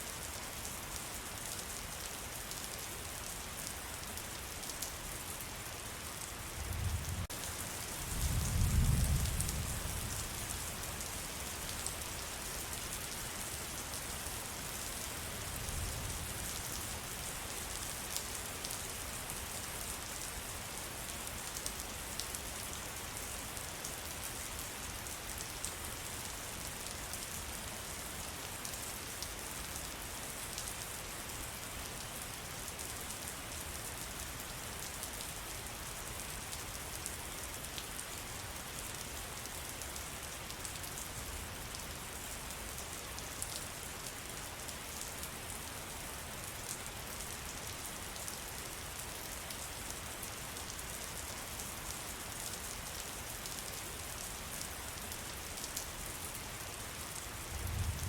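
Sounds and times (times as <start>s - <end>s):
rain falling in forest: 0.0s - 58.0s.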